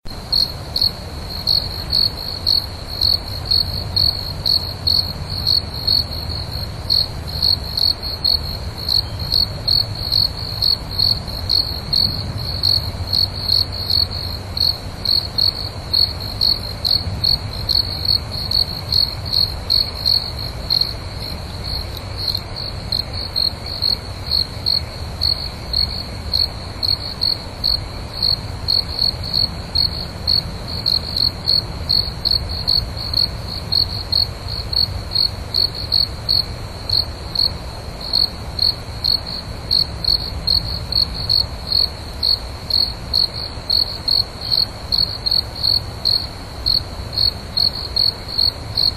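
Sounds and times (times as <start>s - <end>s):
crickets chirping: 0.1s - 48.9s.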